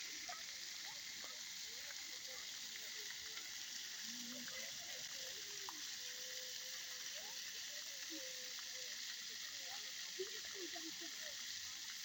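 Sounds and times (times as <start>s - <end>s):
faint far-off voices: 0.0s - 12.0s
faint outdoor hiss: 0.0s - 12.0s.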